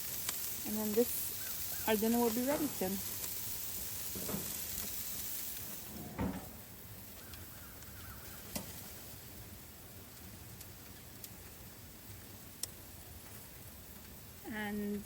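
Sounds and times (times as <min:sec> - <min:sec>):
meat sizzling on a grill: 0:00.0 - 0:15.0.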